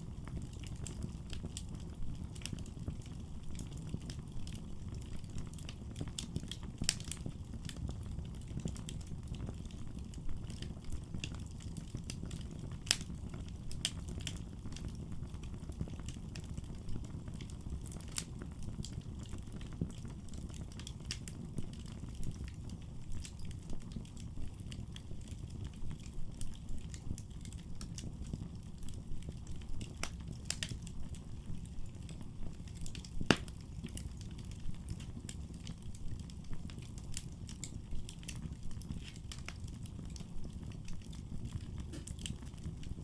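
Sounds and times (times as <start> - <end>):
fire rumbling: 0.0 - 43.0
firewood crackling and popping: 0.0 - 43.0.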